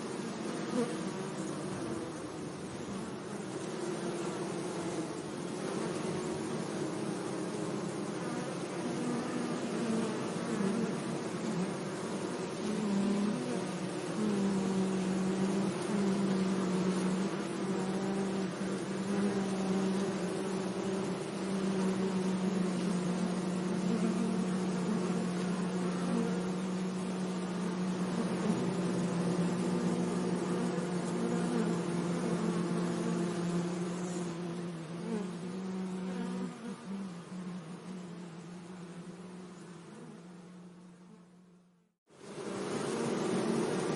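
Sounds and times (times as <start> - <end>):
bee buzzing: 0.0 - 43.9.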